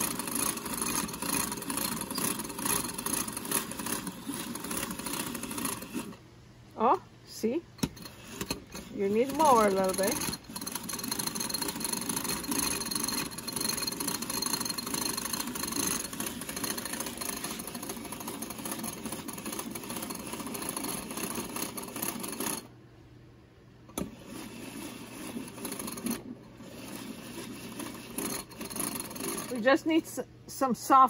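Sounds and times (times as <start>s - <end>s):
whisk scraping in a bowl: 0.0s - 6.2s, 7.8s - 22.7s, 24.0s - 29.8s.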